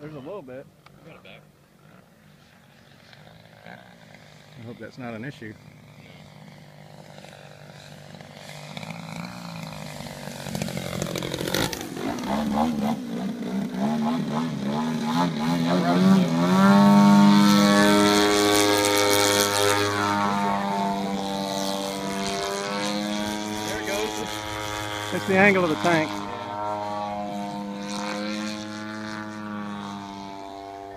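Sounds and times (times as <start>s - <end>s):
model plane engine and propeller: 0.0s - 30.9s.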